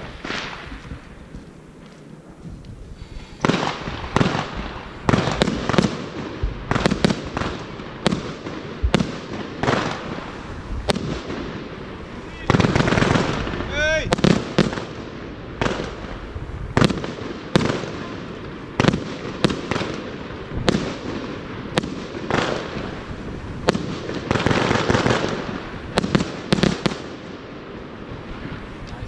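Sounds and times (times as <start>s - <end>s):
crackling firework stars: 0.0s - 29.0s
firework reports: 0.0s - 29.0s.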